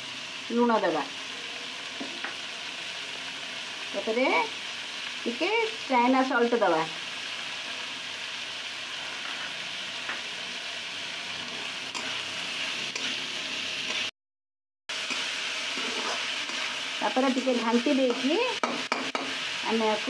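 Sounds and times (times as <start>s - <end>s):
vegetables sizzling in hot oil: 0.0s - 14.1s, 14.9s - 20.0s.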